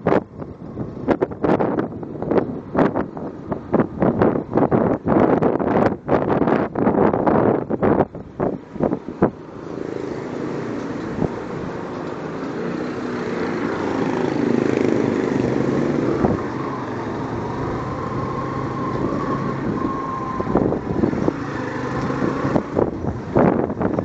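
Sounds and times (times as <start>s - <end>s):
wind gusts on microphone: 0.0s - 24.0s.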